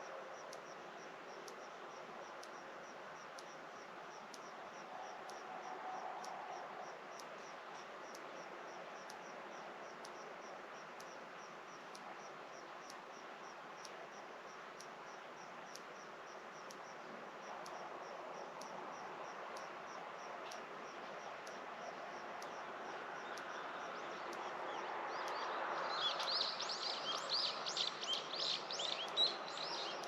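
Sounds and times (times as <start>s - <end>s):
faint tick: 0.0s - 30.0s
soft background hiss: 0.0s - 30.0s.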